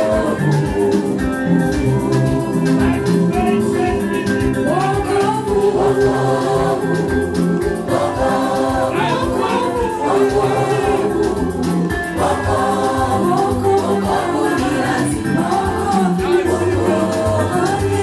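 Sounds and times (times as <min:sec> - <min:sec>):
gospel choir singing over beat: 0:00.0 - 0:18.0.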